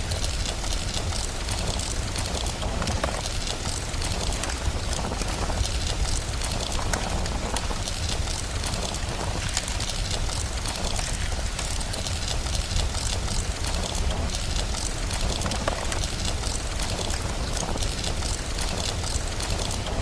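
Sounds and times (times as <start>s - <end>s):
steady rain: 0.0s - 20.0s
fireplace crackling: 0.1s - 20.0s.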